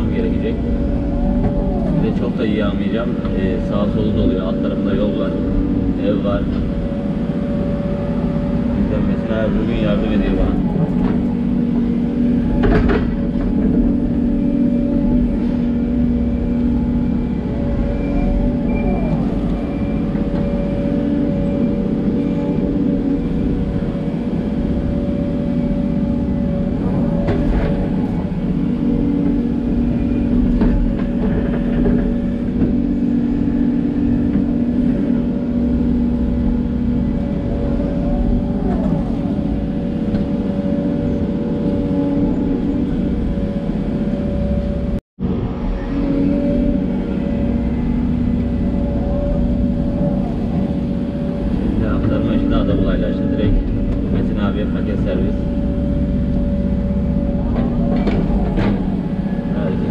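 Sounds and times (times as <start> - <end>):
excavator diesel engine running: 0.0 - 59.9
thin high whine: 0.0 - 59.9.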